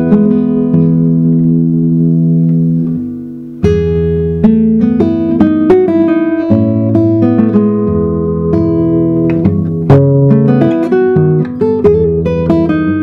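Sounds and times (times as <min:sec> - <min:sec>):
fingerstyle classical guitar: 0:00.0 - 0:13.0.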